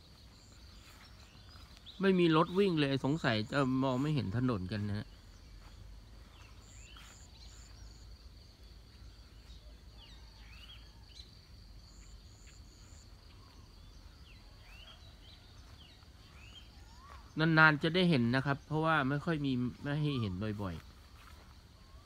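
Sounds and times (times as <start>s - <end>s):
bird chirps: 0.0s - 22.0s
insect hum: 0.0s - 22.0s.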